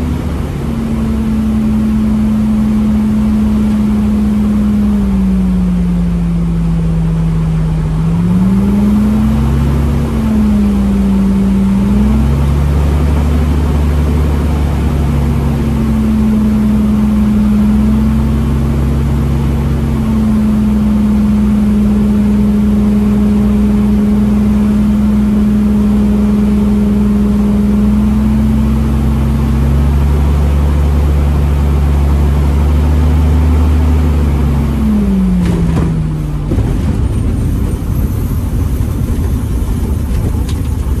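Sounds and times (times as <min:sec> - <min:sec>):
propeller plane engine in cockpit: 0:00.0 - 0:41.0.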